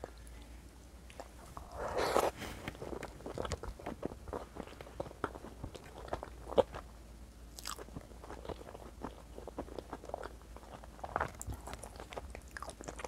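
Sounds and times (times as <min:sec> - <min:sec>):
chewing and wet mouth sounds: 0:00.0 - 0:06.9, 0:07.5 - 0:13.0.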